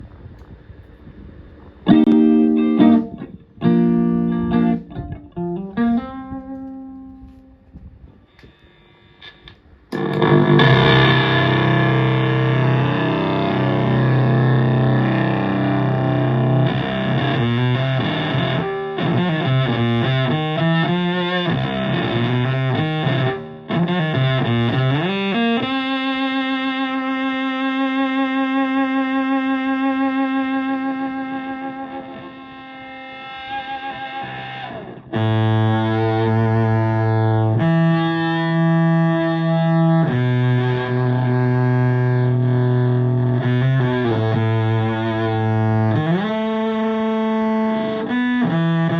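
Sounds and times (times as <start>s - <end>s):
fuzzed electric guitar: 0.0s - 48.9s.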